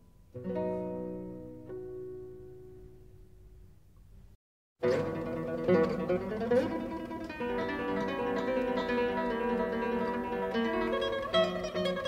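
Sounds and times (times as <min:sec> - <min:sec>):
plucked string melody: 0:00.3 - 0:03.1, 0:04.8 - 0:12.0.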